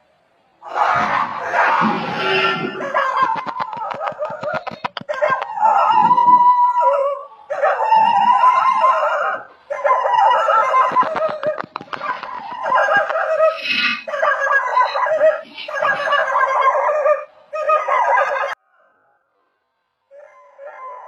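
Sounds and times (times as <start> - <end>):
animals crying out: 0.6 - 18.6.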